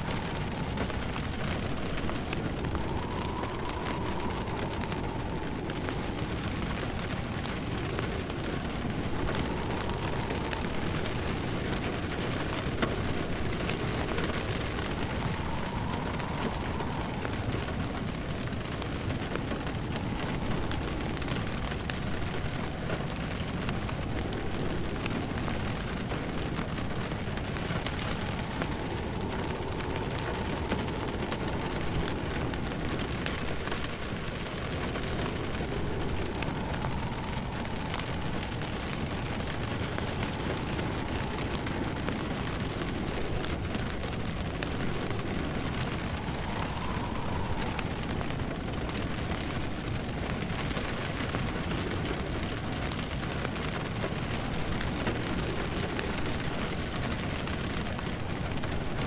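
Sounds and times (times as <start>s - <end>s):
rain hissing on a surface: 0.0s - 59.0s
wood fire crackling and popping: 0.0s - 59.0s.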